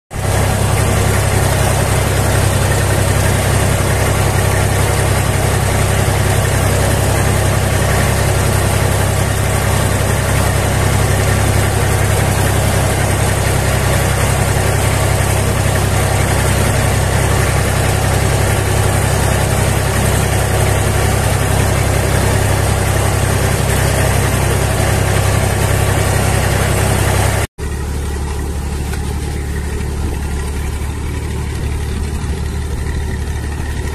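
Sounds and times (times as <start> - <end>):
tractor engine running under load: 0.1 - 33.9.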